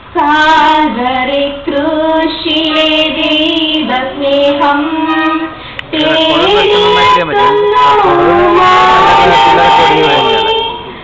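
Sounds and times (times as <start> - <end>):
girl singing into a microphone: 0.0 - 11.0.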